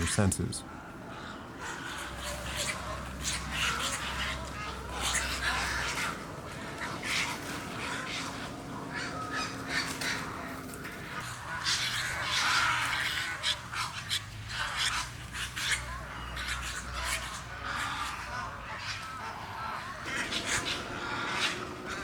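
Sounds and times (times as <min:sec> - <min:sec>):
egrets and herons cackling: 0:00.0 - 0:22.0.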